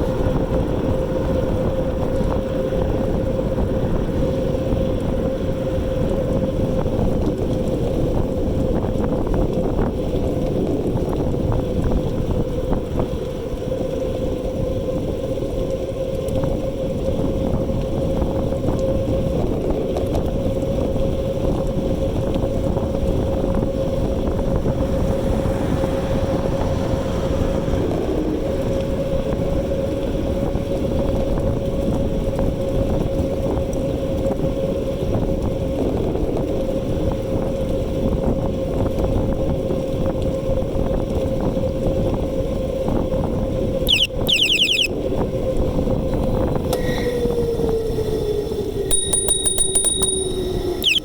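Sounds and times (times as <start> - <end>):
road noise: 0.0 - 18.2, 20.7 - 35.7, 41.6 - 48.9, 50.2 - 51.0
wind on microphone: 0.0 - 48.9.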